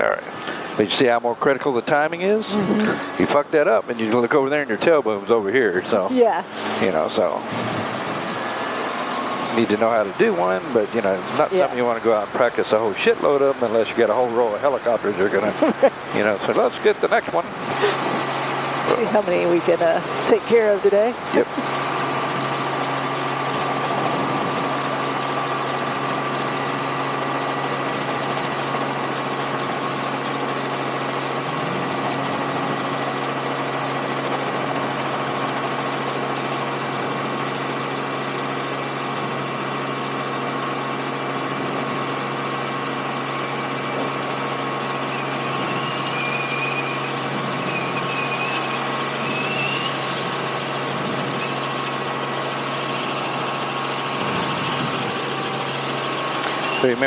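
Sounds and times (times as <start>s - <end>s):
helicopter engine and rotor hum: 0.0s - 57.0s.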